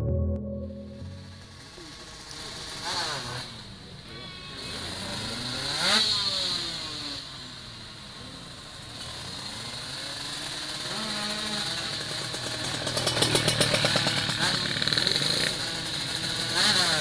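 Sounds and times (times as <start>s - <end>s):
two-stroke engine revving: 1.5s - 17.0s.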